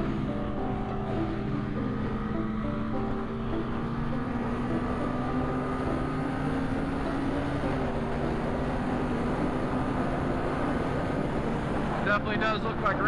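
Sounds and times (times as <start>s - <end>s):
motorcycle engine: 0.0s - 13.0s.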